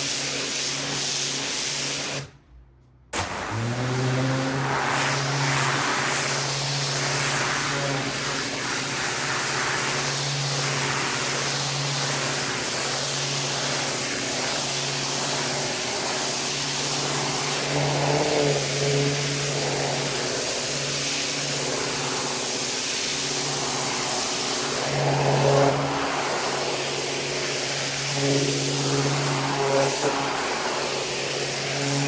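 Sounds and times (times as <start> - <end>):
high-pressure water spray hissing: 0.0 - 2.3, 4.0 - 32.0
pressure washer motor humming: 0.0 - 2.3, 3.2 - 32.0.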